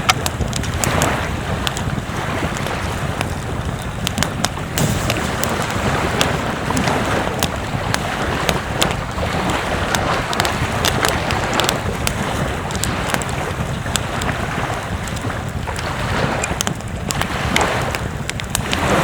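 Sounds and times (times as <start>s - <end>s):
sharp crackling clicks: 0.0s - 19.0s
surf: 0.0s - 19.0s
wind buffeting microphone: 0.0s - 19.0s.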